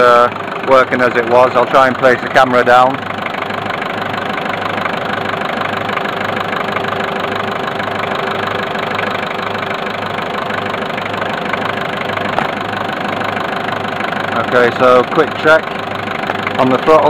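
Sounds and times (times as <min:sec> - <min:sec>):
turbocharged engine idling: 0:00.0 - 0:17.0.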